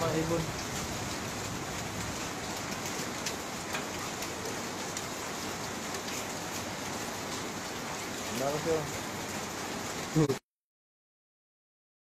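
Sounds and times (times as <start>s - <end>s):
rain pattering: 0.0s - 10.4s.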